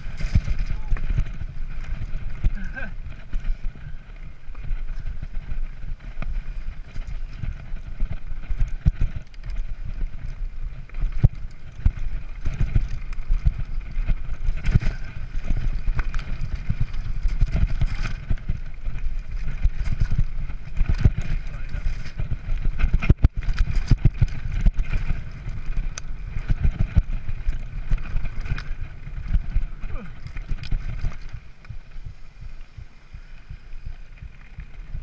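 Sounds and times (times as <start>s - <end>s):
bike tyres rumbling on gravel: 0.0s - 35.0s
wheels knocking on rocks: 0.0s - 35.0s
wind buffeting microphone: 0.0s - 35.0s.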